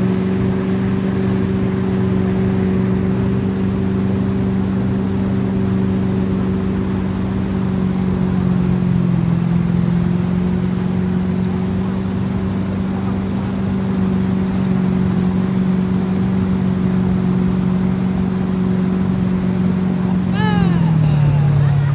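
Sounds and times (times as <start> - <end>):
boat engine running: 0.0 - 21.9.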